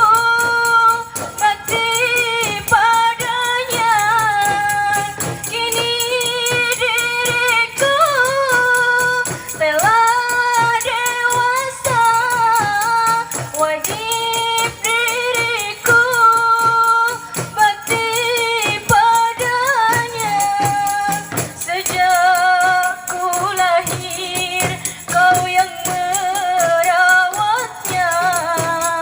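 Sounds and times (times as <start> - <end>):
tambourine and hand-drum beats: 0.0 - 29.0
voices singing melismatic melody: 0.0 - 29.0.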